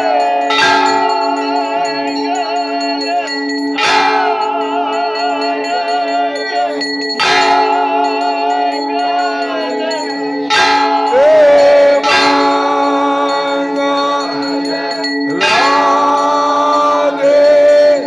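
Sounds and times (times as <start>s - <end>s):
bells ringing: 0.0s - 18.0s
loud bell strikes: 0.0s - 18.0s.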